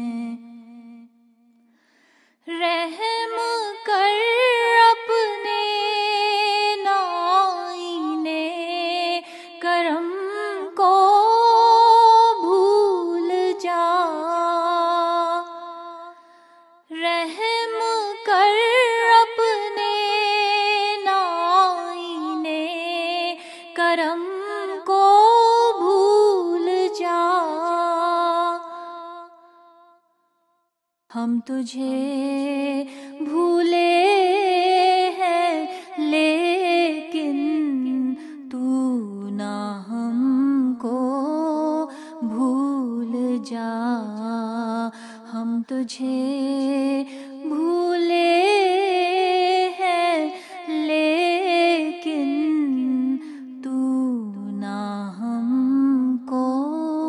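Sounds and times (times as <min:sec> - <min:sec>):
woman singing unaccompanied: 0:02.5 - 0:16.2, 0:16.9 - 0:29.4, 0:31.1 - 0:57.0.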